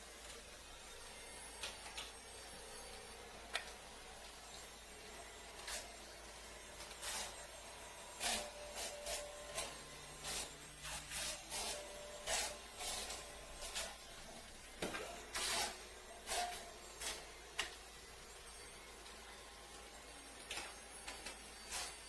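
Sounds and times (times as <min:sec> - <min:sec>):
faint motor whine: 0:00.0 - 0:22.0.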